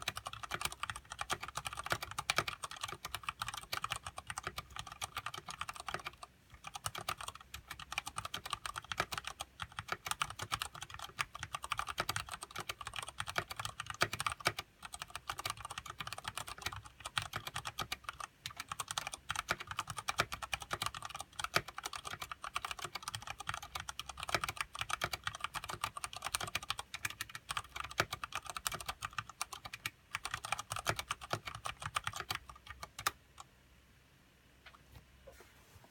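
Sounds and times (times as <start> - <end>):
typing on mechanical keyboard: 0.0 - 33.5.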